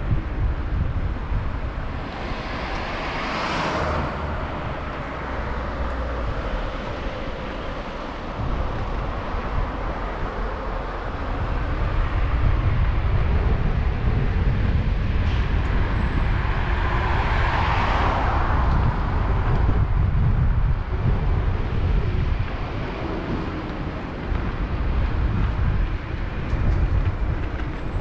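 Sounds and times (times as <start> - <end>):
road traffic: 0.0 - 28.0
wind rumbling on microphone: 0.0 - 28.0
car passing: 1.8 - 28.0.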